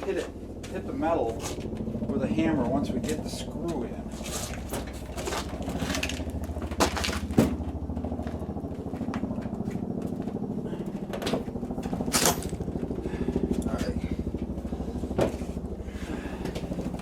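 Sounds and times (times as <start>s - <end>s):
motor running with fast pulse: 0.3s - 17.0s.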